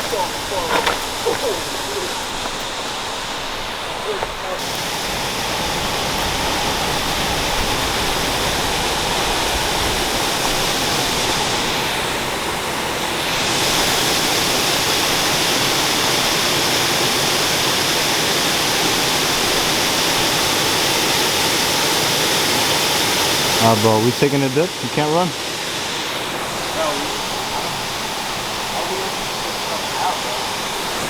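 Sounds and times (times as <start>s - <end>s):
waterfall pouring into a pool: 0.0s - 31.0s.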